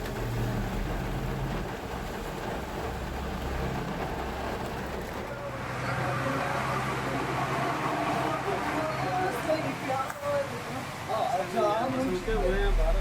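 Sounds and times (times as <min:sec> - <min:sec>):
vehicle engines running: 0:00.0 - 0:11.1
hiss of rain and water: 0:00.0 - 0:13.0.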